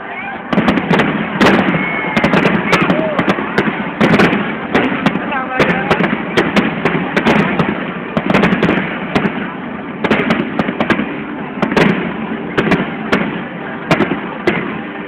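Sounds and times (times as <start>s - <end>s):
crowd noise: 0.0s - 15.0s
fireworks cracking and banging: 0.0s - 15.0s.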